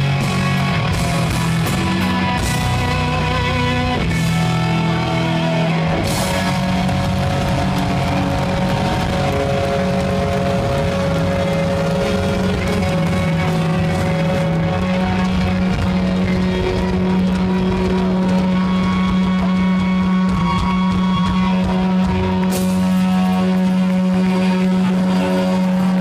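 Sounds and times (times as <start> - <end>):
electric guitar line: 0.0 - 26.0
rock band sustained low note: 0.0 - 26.0.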